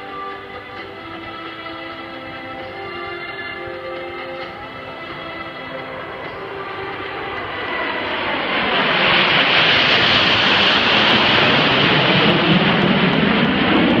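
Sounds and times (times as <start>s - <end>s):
aircraft flying low pass: 0.0s - 14.0s.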